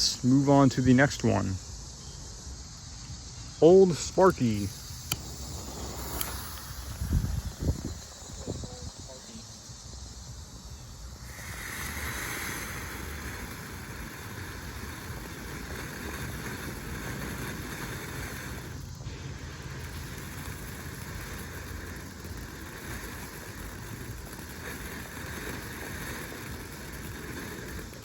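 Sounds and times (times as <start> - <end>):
firework fountain hissing: 0.0 - 28.0.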